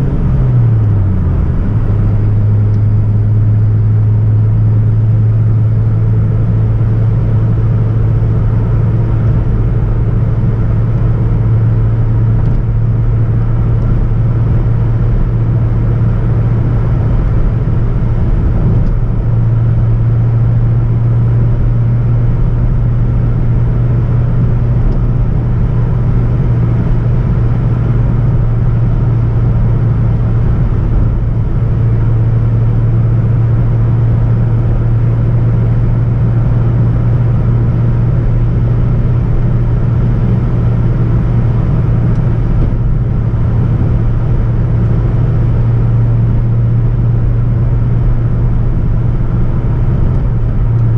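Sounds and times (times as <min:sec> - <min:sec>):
car engine and exhaust drone: 0:00.0 - 0:50.9
road noise: 0:00.0 - 0:50.9.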